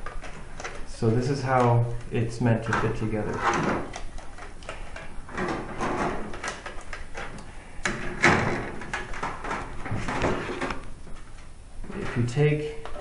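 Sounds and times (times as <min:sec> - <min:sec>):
plastic parts scraping and clicking: 0:00.0 - 0:13.0.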